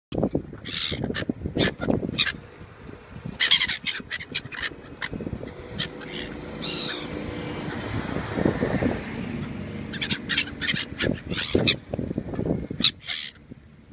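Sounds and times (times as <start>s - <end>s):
gulls calling: 0.2s - 13.9s.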